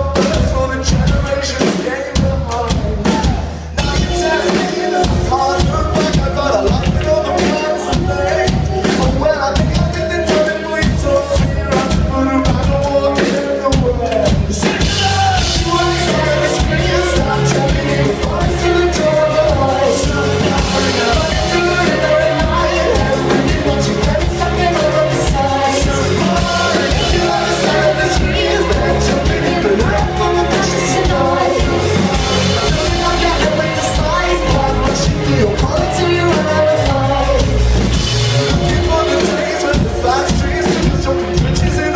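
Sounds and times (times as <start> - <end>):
lead vocal singing: 0.0 - 41.9
live band playing: 0.0 - 41.9.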